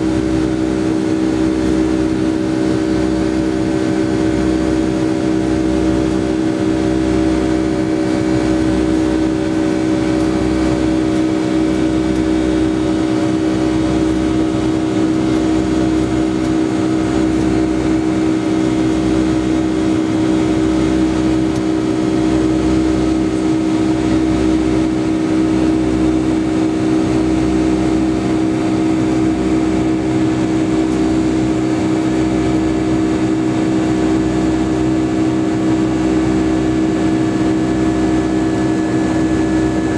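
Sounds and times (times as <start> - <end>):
jet engines drone in cabin: 0.0 - 39.9.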